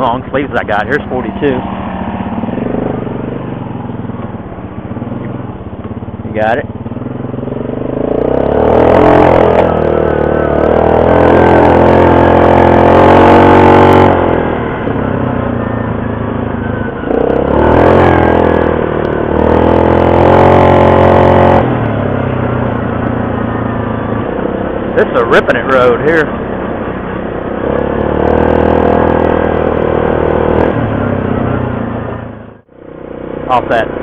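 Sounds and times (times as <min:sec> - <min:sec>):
quad engine revving: 0:06.3 - 0:34.0.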